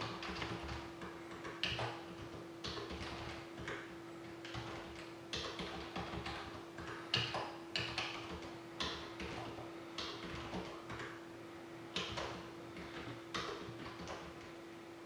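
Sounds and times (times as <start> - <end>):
keyboard and mouse clicks: 0.0 - 11.2, 12.0 - 14.6
steady hum: 0.0 - 15.0.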